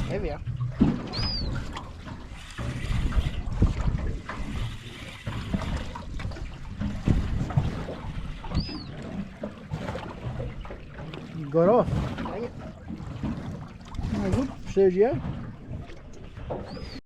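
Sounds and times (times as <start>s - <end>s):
water lapping against boat hull: 0.0s - 17.0s
wind buffeting microphone: 0.0s - 17.0s.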